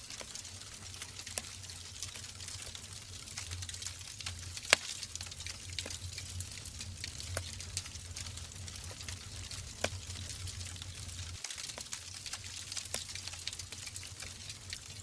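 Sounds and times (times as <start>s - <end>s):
low rumble and hiss: 0.0s - 15.0s
wood fire crackling: 0.0s - 15.0s.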